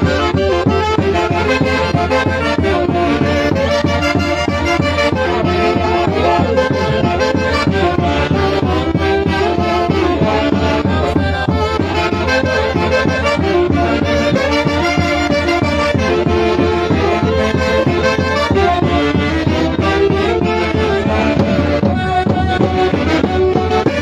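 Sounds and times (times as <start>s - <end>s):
reed and brass orchestra music: 0.0s - 24.0s.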